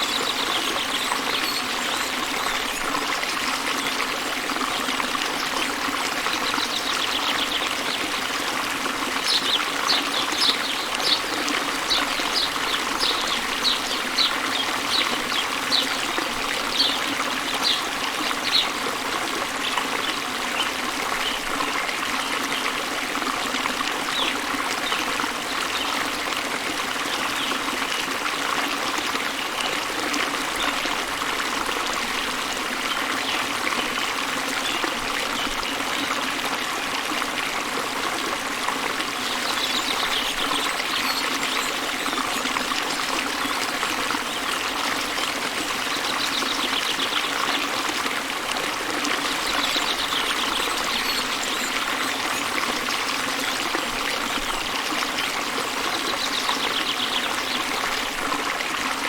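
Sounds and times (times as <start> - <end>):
water rushing and splashing: 0.0 - 59.0.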